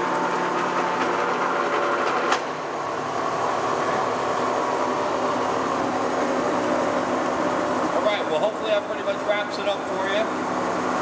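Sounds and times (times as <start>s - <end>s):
lathe running with mechanical whir: 0.0s - 11.0s.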